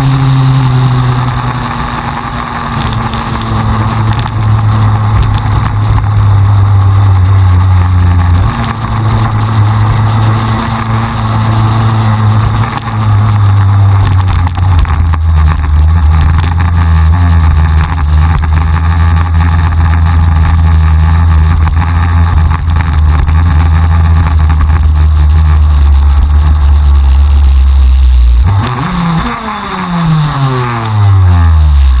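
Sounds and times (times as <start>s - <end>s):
kart engine running: 0.0s - 32.0s.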